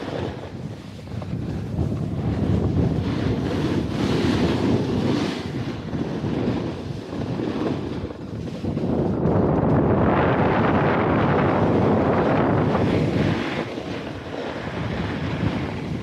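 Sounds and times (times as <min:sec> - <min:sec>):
snowboard edge scraping snow: 0:00.0 - 0:16.0
wind buffeting microphone: 0:00.0 - 0:16.0.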